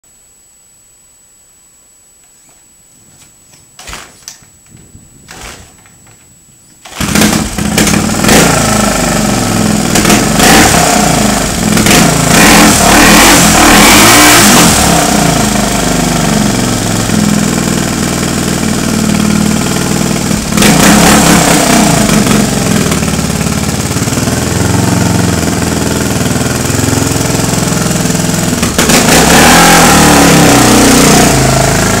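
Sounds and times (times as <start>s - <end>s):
motorcycle engine starting and revving: 3.8s - 32.0s.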